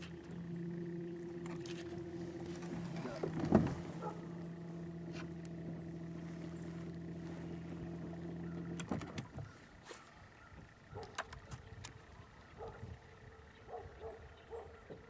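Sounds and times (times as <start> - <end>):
electric boat motor humming: 0.0 - 15.0.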